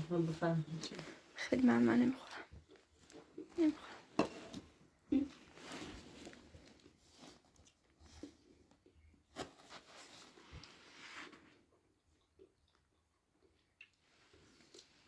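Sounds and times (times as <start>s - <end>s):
faint rustling and handling: 0.0s - 12.0s, 14.0s - 15.0s.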